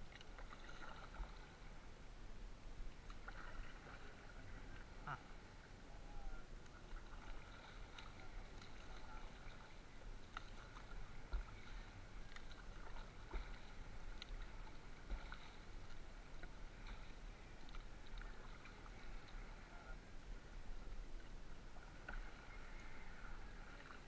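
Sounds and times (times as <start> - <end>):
paddle in water: 0.0 - 24.0.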